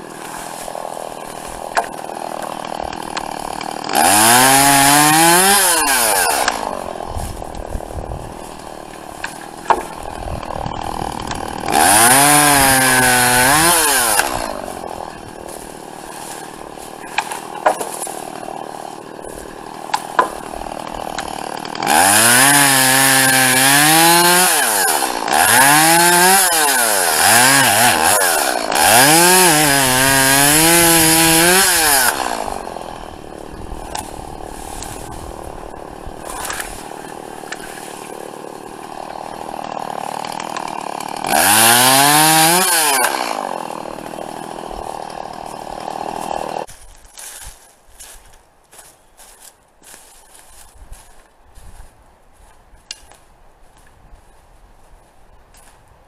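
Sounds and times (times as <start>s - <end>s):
chainsaw idling and cutting branches: 0.0s - 51.3s.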